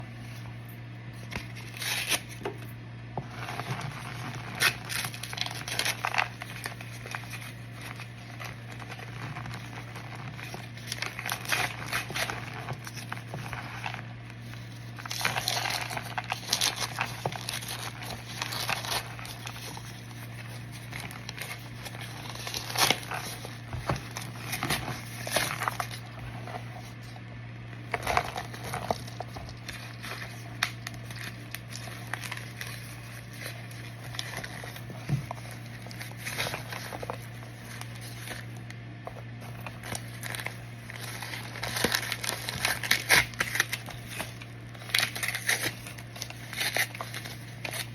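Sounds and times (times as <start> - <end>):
cornstarch crackling and crinkling: 0.0 - 47.9.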